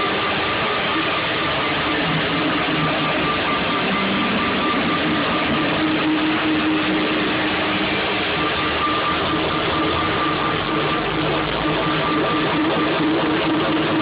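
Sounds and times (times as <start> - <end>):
loud electronic dance music: 0.0 - 14.0.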